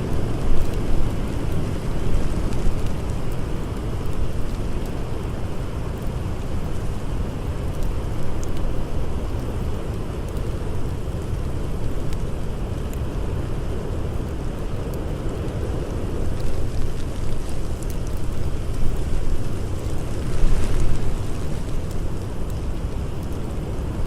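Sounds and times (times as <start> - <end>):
blizzard wind blowing: 0.0 - 8.1, 10.4 - 24.0
faint campfire crackles: 0.0 - 24.0.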